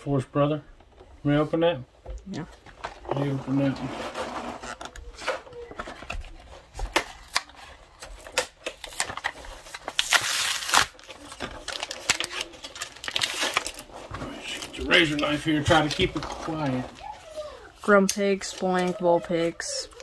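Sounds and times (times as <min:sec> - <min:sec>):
packaging crinkling and rustling: 0:02.6 - 0:20.0.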